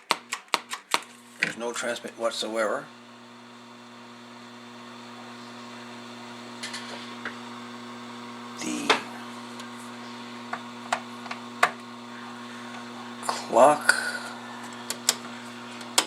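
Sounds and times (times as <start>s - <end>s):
radio mains hum: 0.0s - 16.0s.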